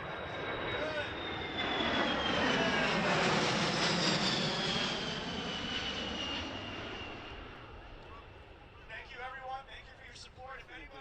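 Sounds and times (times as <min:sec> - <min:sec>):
jet aircraft flyby rush: 0:00.0 - 0:10.8
jet engine high whine: 0:00.0 - 0:11.0.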